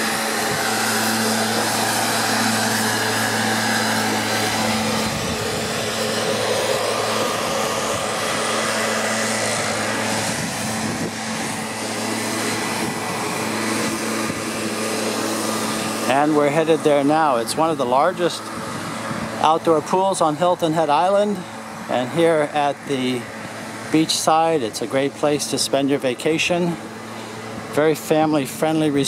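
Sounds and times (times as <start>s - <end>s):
rushing blast of air: 0.0s - 28.0s
leaf blower engine hum: 0.0s - 29.0s.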